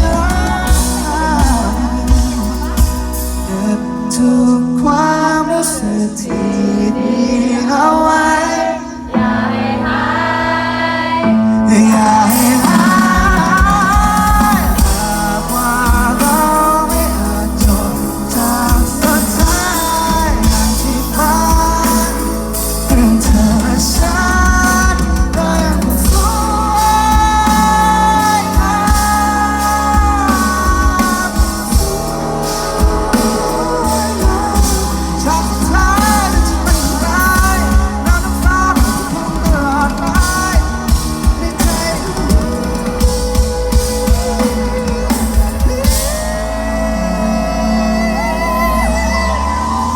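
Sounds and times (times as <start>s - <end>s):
drum kit: 0.0s - 4.2s, 11.7s - 49.9s
pop-rock band playing a ballad: 0.0s - 49.9s.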